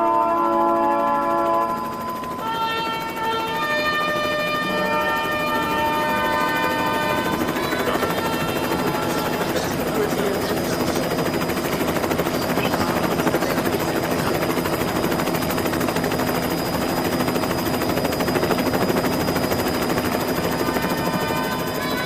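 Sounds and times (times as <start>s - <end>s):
helicopter rotor beat: 0.0s - 22.0s
high turbine whine: 0.0s - 22.0s.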